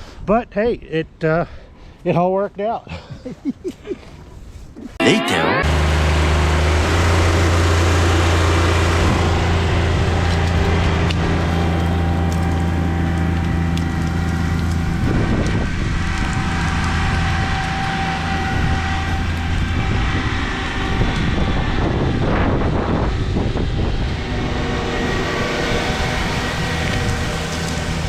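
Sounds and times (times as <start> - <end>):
loud rough noise: 5.0 - 28.0
tractor diesel engine running: 5.3 - 28.0.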